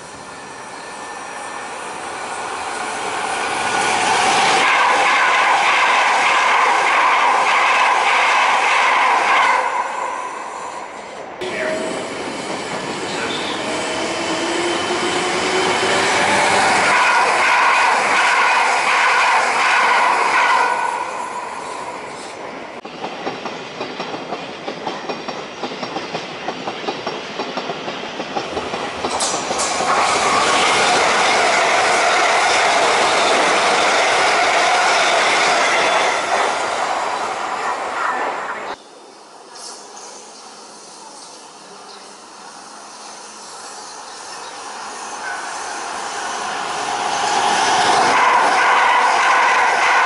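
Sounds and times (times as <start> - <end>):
train passing at speed: 0.0 - 50.0
train whine: 0.0 - 50.0.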